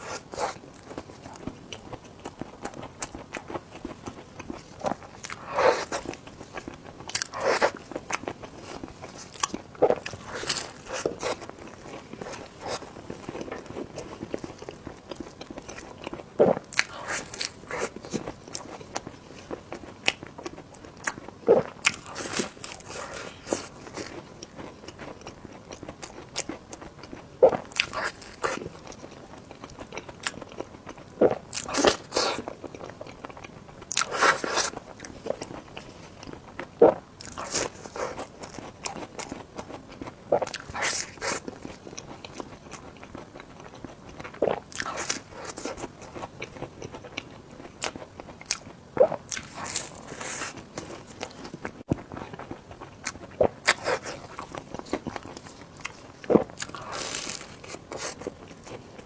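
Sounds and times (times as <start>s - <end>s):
bites and wet chewing: 0.0s - 59.0s.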